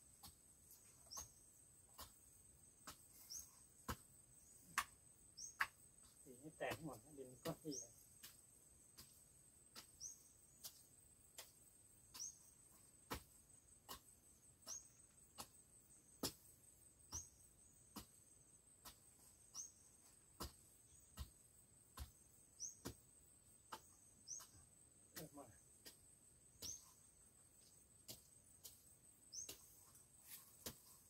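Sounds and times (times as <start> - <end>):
hoe chopping into soil: 0.1 - 31.0.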